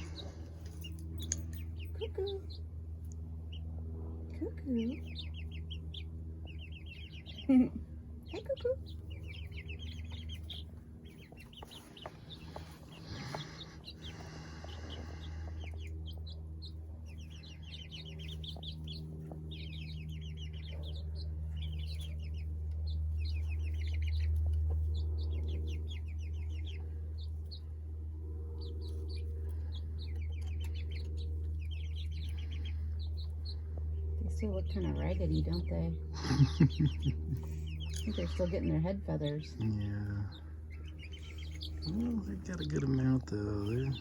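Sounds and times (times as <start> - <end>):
chicks peeping: 0.0 - 44.0
low hum: 0.0 - 44.0.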